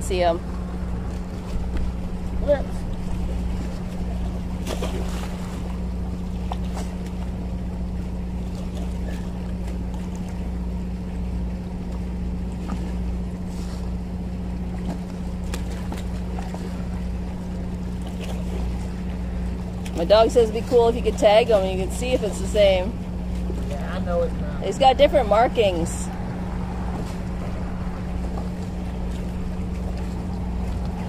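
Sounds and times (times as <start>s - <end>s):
engine hum: 0.0s - 31.0s
light water splashes: 0.0s - 31.0s
moving water: 0.0s - 31.0s.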